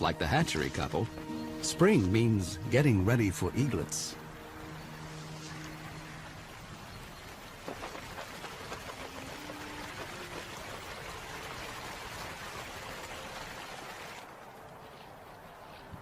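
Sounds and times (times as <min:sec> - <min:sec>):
flowing water rushing: 0:00.0 - 0:15.5.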